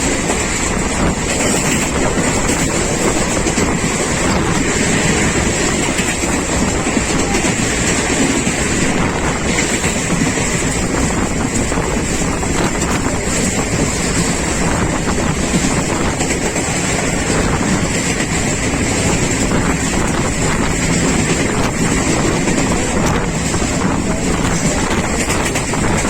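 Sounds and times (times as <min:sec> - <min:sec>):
train wheels rumbling on rails: 0:00.0 - 0:26.0
wind on microphone: 0:00.0 - 0:26.0.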